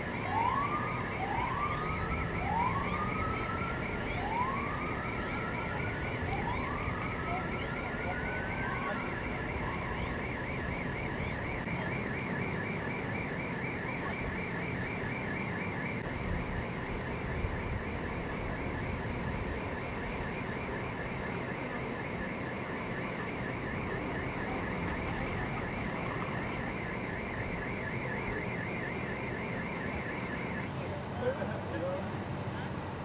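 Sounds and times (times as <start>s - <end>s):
traffic noise: 0.0s - 33.0s.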